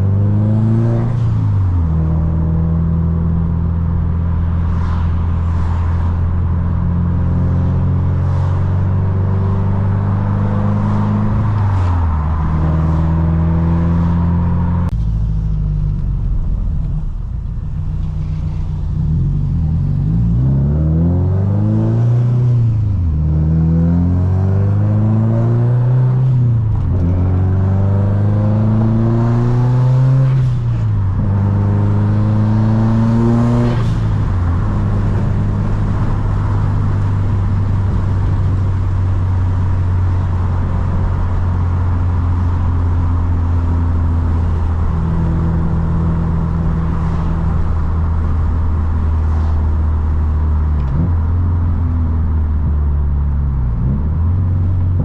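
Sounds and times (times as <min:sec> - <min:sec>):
car engine accelerating hard: 0:00.0 - 0:55.0.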